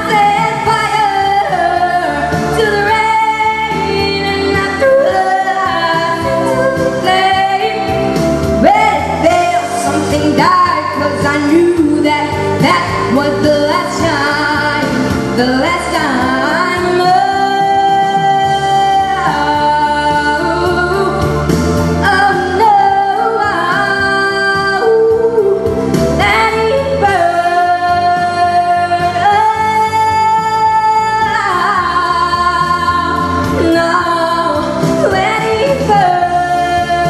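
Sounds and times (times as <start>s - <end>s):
pop ballad backing track: 0.0s - 37.0s.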